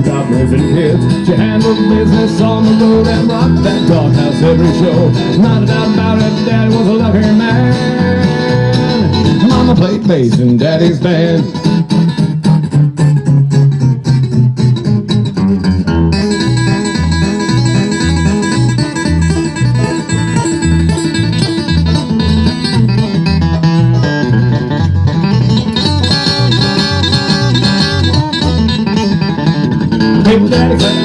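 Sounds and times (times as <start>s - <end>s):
banjo picking: 0.0s - 31.0s
bass notes: 0.0s - 31.0s
guitar picking: 0.0s - 31.0s.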